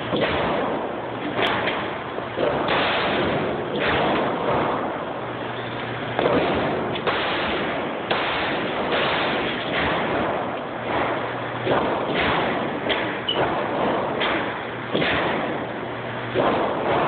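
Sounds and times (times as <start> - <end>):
gunshots with reverberation: 0.0 - 17.0.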